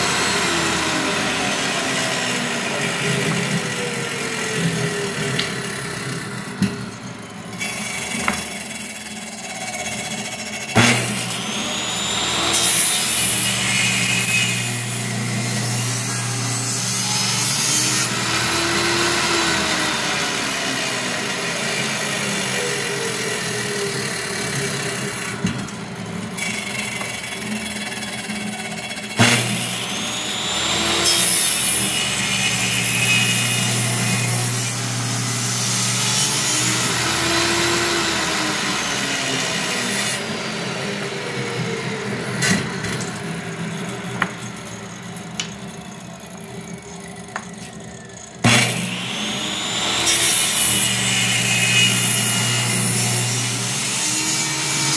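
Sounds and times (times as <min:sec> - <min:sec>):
table saw cutting wood: 0:00.0 - 0:54.9.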